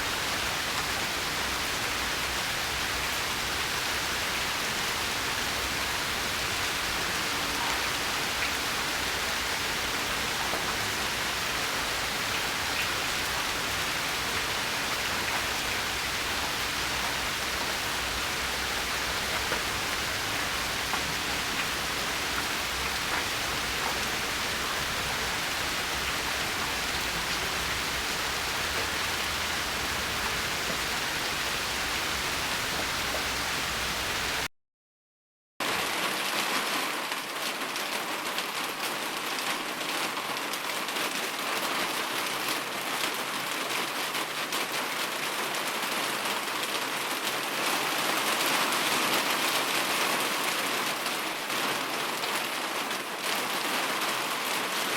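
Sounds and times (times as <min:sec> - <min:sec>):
steady rain falling: 0:00.0 - 0:34.5, 0:35.6 - 0:54.9.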